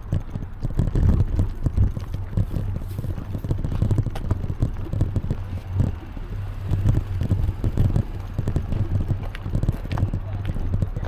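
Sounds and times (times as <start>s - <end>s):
bicycle rattles and knocks: 0.0s - 11.0s
wind buffeting microphone: 0.0s - 11.0s.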